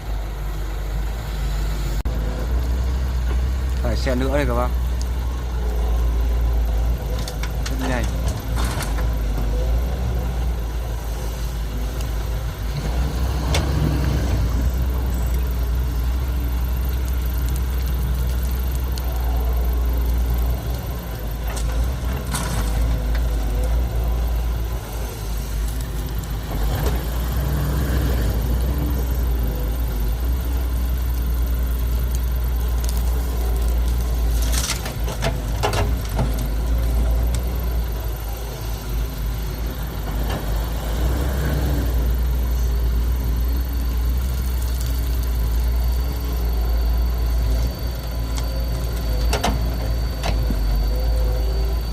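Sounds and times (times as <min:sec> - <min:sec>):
heavy diesel engines running: 0:00.0 - 0:51.9.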